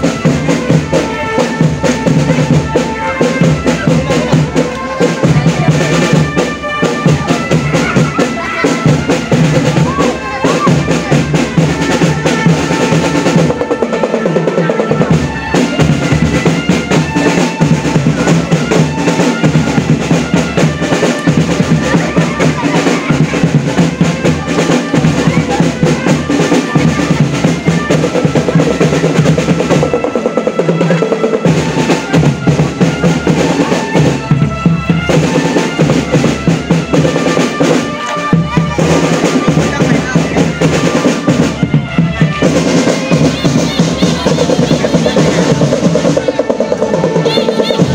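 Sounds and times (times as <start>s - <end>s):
bass drums beating: 0.0s - 47.9s
snare drums rolling: 0.0s - 47.9s.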